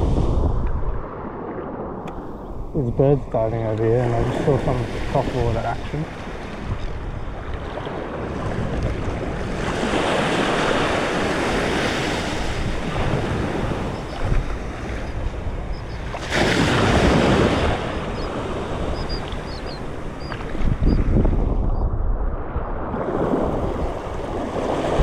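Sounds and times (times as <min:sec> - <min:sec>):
small waves washing on sand: 0:00.0 - 0:21.6, 0:22.8 - 0:25.0
wind rumbling on microphone: 0:00.0 - 0:25.0.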